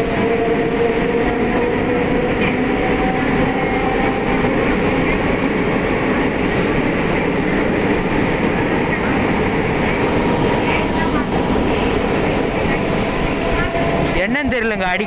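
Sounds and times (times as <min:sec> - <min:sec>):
faint train whine: 0:00.0 - 0:15.0
train wheels rumbling: 0:00.0 - 0:15.0.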